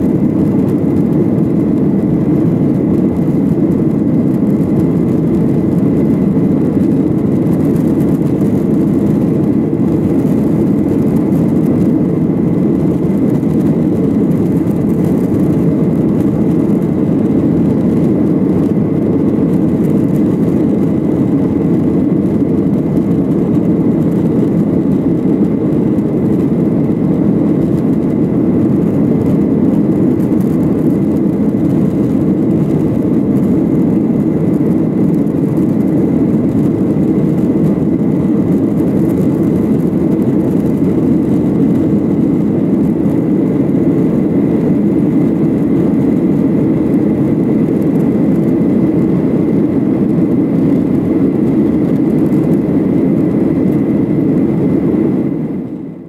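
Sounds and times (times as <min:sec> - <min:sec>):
faint steady whine: 0:00.0 - 0:56.0
jet engine cabin rush: 0:00.0 - 0:56.0.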